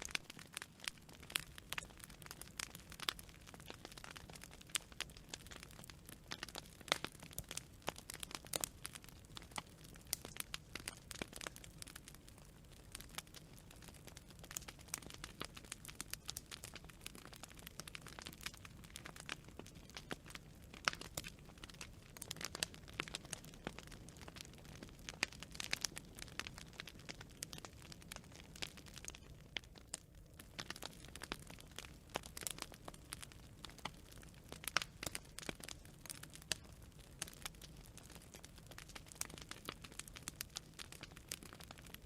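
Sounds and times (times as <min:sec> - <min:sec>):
firewood popping and snapping: 0:00.0 - 0:42.0.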